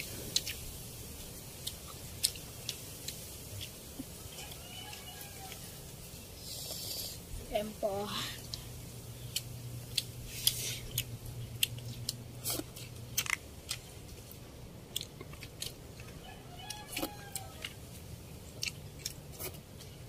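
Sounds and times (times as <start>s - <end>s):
chewing and lip-smacking: 0.0s - 5.7s, 8.4s - 20.0s
low steady hum: 0.0s - 20.0s.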